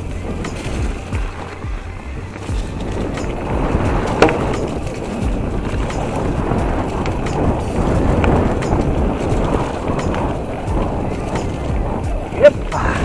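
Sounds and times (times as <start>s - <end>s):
bike rattling over bumps: 0.0s - 13.0s
bike tyres rumbling on dirt: 0.0s - 13.0s.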